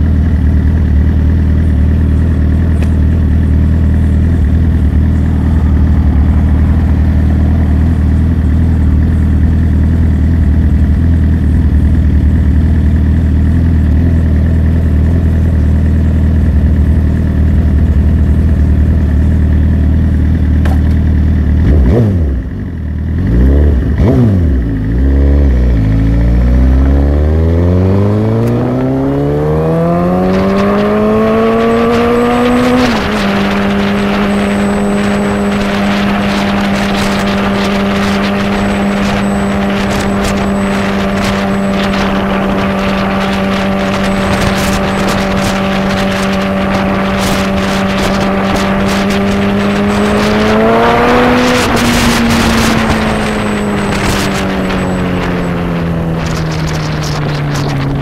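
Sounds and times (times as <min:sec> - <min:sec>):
motorcycle engine idling and revving: 0:00.0 - 0:58.0
motorcycle pulling away: 0:00.0 - 0:58.0.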